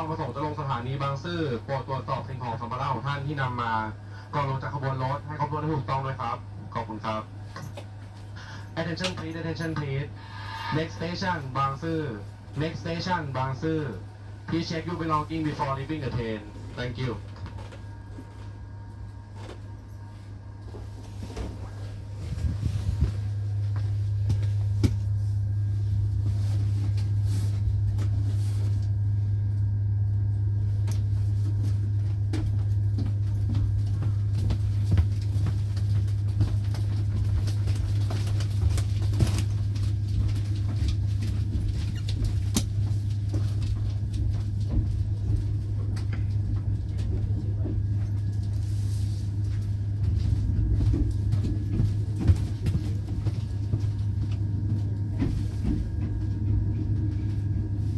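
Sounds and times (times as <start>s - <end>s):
train rumbling from inside coach: 0.0s - 57.9s.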